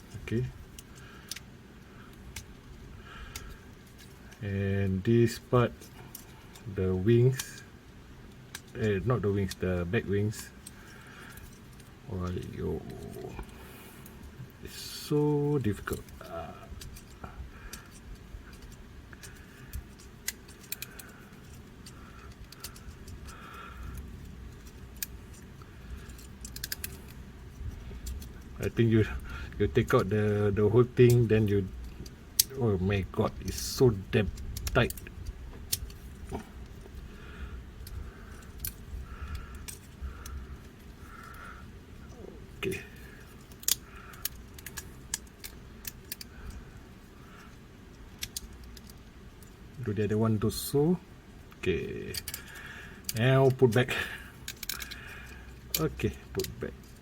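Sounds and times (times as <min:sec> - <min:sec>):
plastic toy parts clicking: 0:00.1 - 0:04.4, 0:05.3 - 0:06.7, 0:08.3 - 0:09.6, 0:10.3 - 0:13.6, 0:14.7 - 0:37.1, 0:37.8 - 0:49.8, 0:51.4 - 0:57.0.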